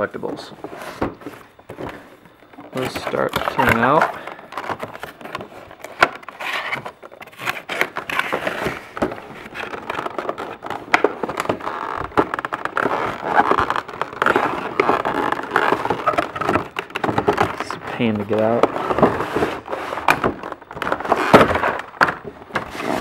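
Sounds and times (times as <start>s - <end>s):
cardboard box tearing and crinkling: 2.7s - 23.0s.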